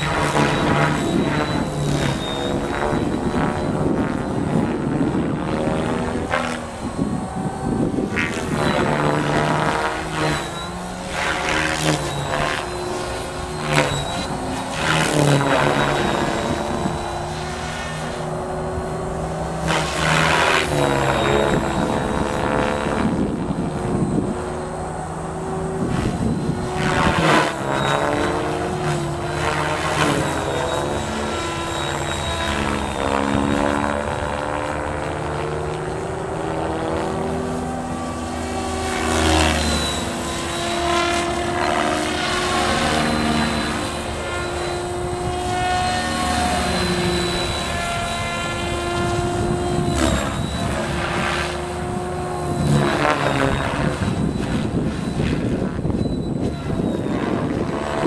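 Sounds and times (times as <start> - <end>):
rc helicopter rotor and motor whine: 0.0 - 58.0.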